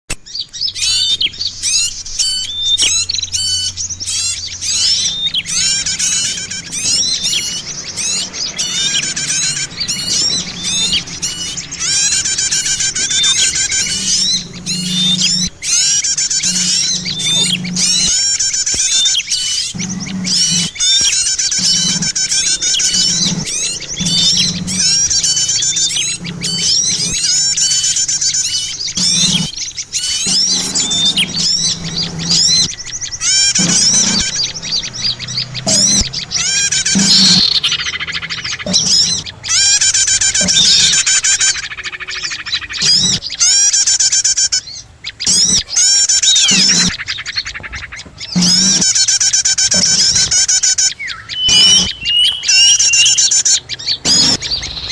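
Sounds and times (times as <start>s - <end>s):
small birds chirping and trilling: 0.1s - 54.9s.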